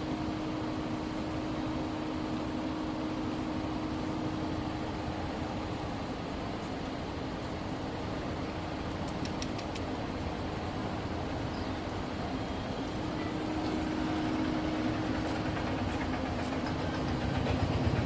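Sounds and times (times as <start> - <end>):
faint steady hum: 0.0 - 16.6
vehicle engine rumbling: 0.0 - 18.0.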